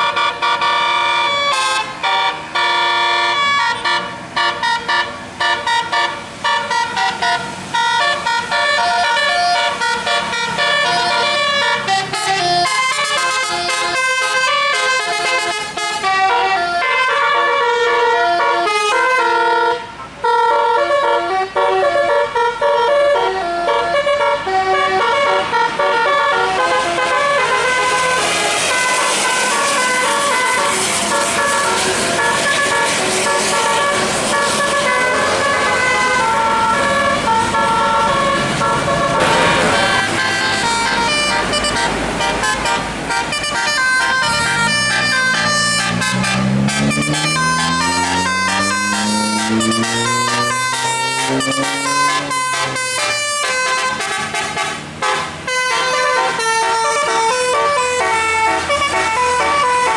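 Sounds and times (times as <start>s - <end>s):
multi-tone air horn playing a tune: 0.0s - 59.9s.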